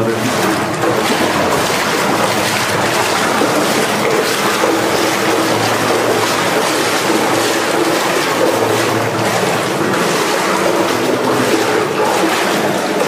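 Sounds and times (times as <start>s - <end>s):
water sloshing around wading legs: 0.0s - 13.0s.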